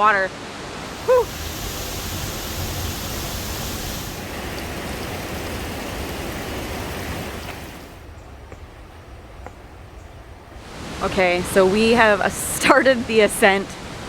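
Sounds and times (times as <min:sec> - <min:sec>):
waterfall rushing roar: 0:00.0 - 0:08.1, 0:10.6 - 0:14.0.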